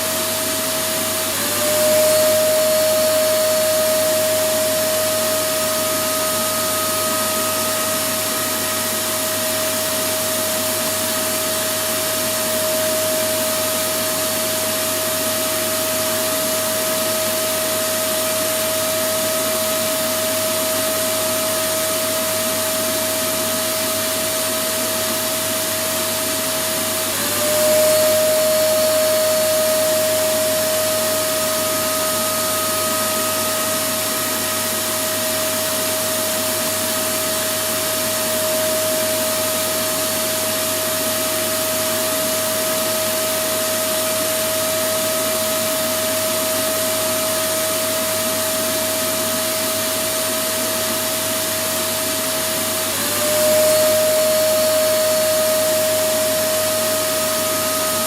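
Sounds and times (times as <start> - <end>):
vacuum cleaner motor whining: 0.0 - 58.0.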